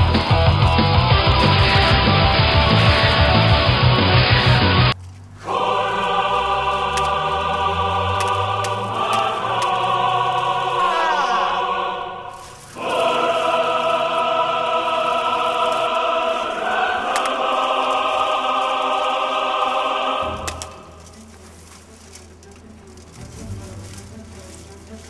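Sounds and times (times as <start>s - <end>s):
choral music with held chords: 0.0s - 25.0s.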